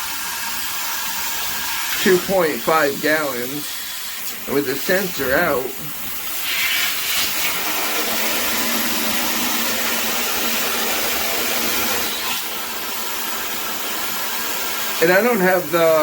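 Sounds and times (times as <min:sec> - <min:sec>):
shower head spraying water: 0:00.0 - 0:16.0.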